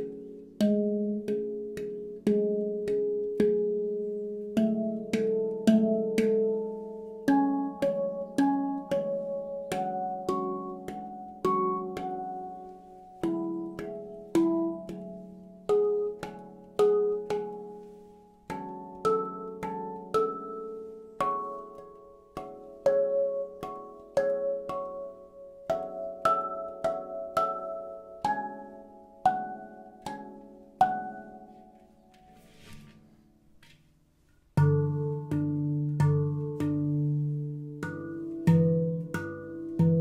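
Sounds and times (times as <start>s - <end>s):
handpan notes ringing: 0.0s - 33.6s, 34.3s - 40.0s.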